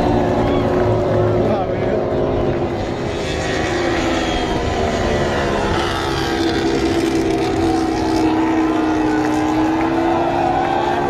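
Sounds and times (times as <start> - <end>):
motorcycle engine at high revs: 1.5 - 11.0.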